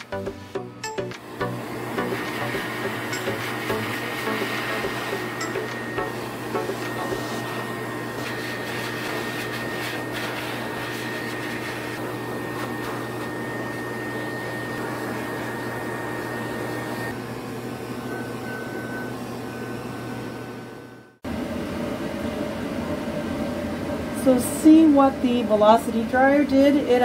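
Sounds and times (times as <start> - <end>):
pet dryer blowing air: 1.2 - 27.0.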